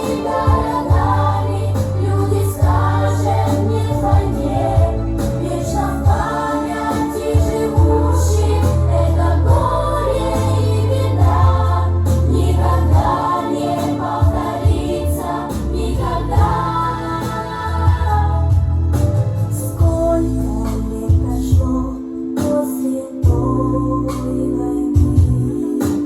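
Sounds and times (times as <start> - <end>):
backing track with bass line: 0.0 - 26.0
voices singing together: 0.0 - 26.0.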